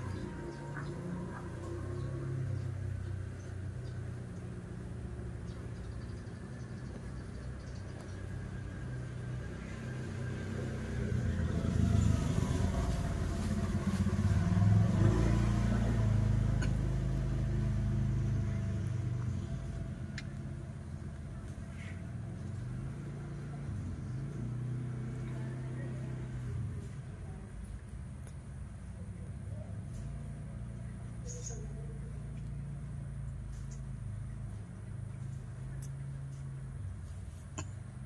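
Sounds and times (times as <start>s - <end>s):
motor vehicle engine passing: 0.0s - 38.0s.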